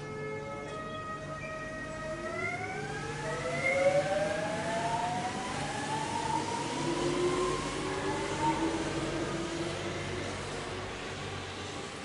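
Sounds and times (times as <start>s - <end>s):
train rumble: 0.0s - 12.0s
train whine: 0.0s - 12.0s.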